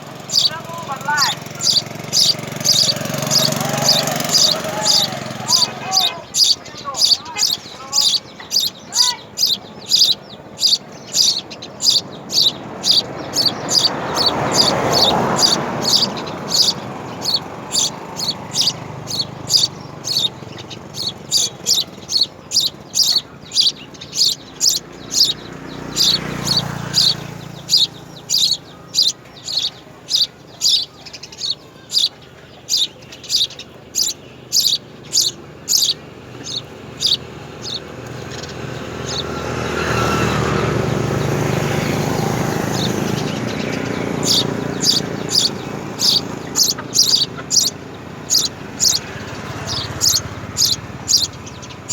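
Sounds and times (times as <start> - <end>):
small bird chirping: 0.0 - 51.9.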